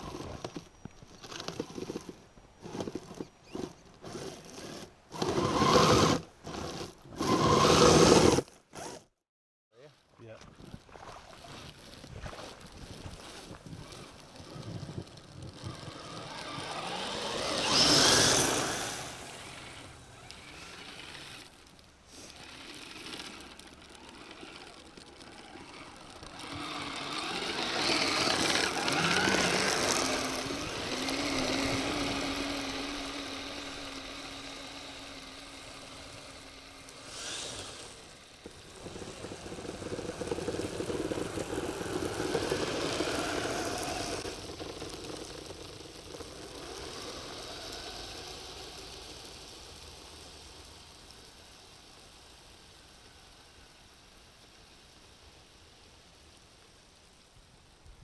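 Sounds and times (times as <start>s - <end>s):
small electric motor running: 1.2s - 9.0s, 13.2s - 52.8s.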